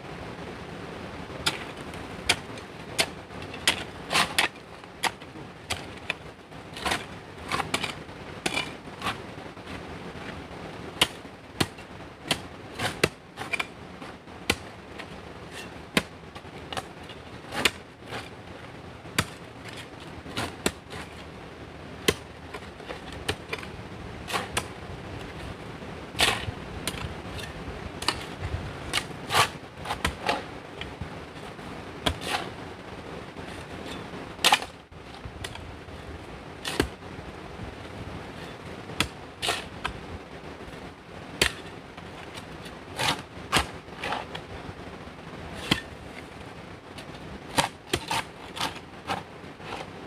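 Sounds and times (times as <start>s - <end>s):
steady background hiss: 0.0s - 50.0s.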